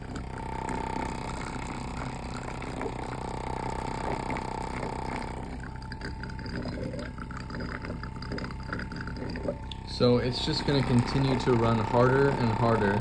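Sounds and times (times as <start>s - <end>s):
steady engine tone: 0.0s - 13.0s
water bubbling and gurgling: 0.0s - 13.0s.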